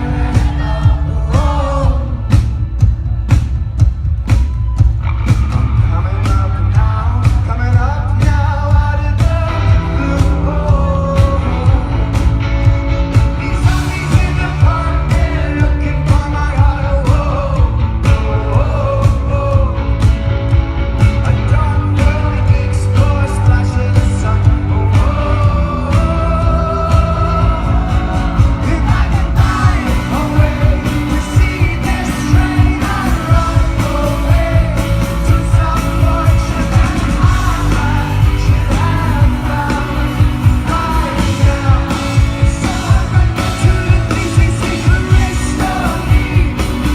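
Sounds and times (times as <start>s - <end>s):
person singing: 0.0s - 2.9s, 5.6s - 20.1s, 21.1s - 46.9s
live rock band playing: 0.0s - 46.9s.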